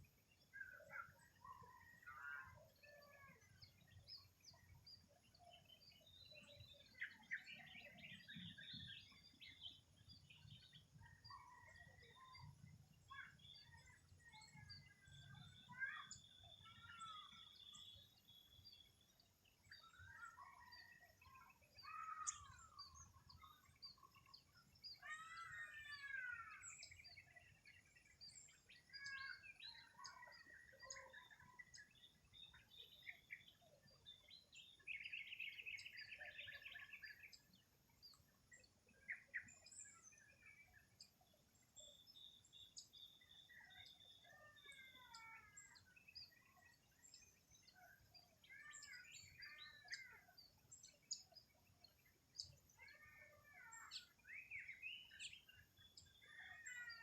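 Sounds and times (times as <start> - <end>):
birds calling and singing: 0.0 - 57.0.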